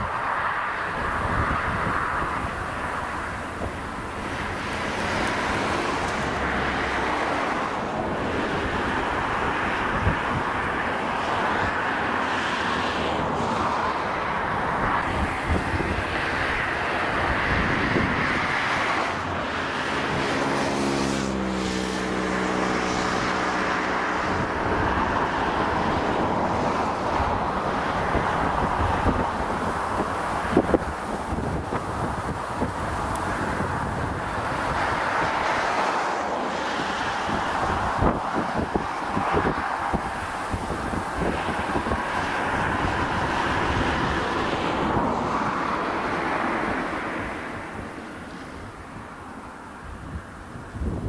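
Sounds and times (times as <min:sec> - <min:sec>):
jet engine roar: 0:00.0 - 0:49.5
wind buffeting microphone: 0:00.0 - 0:51.0.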